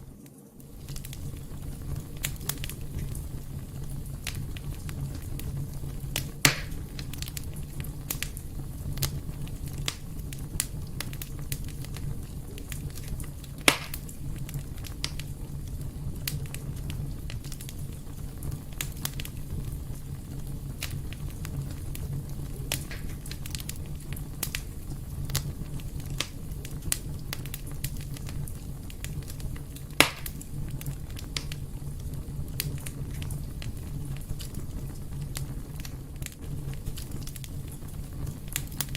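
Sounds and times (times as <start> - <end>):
fireplace fire crackling: 0.0 - 38.9
low background rumble: 0.0 - 38.9
sharp pops of fire: 0.2 - 38.9.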